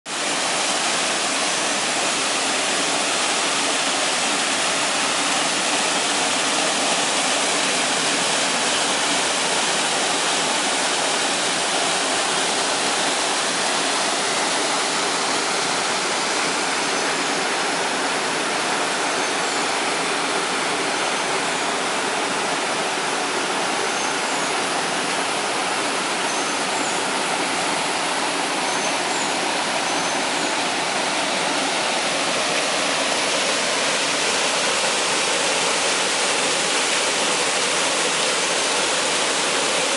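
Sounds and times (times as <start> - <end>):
waterfall rushing: 0.1 - 39.9.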